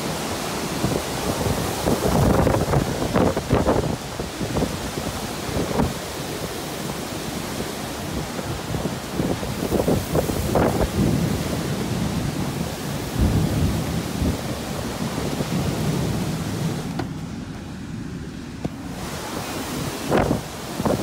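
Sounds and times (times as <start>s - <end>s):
driving rain: 0.0s - 21.0s
storm wind buffeting microphone: 0.0s - 21.0s.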